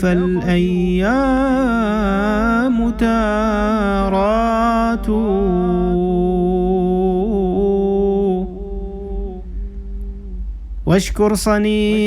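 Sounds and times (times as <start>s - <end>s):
man singing unaccompanied: 0.0s - 12.0s
steady low hum: 0.0s - 12.0s.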